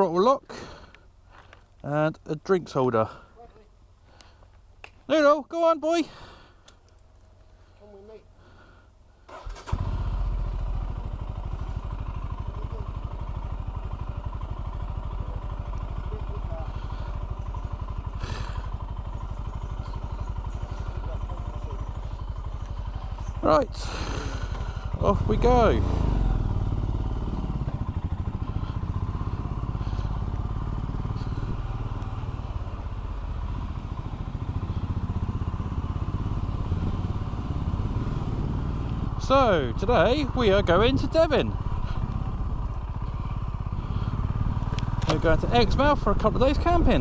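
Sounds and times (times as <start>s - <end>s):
motorcycle engine idling: 6.1s - 47.0s.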